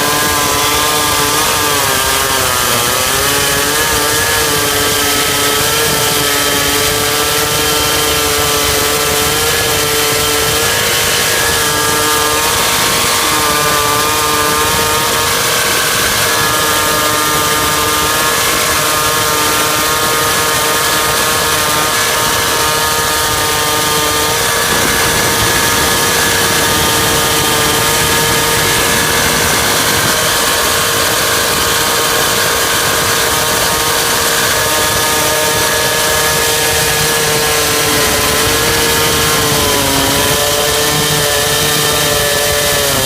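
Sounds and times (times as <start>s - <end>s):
concrete chainsaw cutting stone: 0.0s - 43.0s.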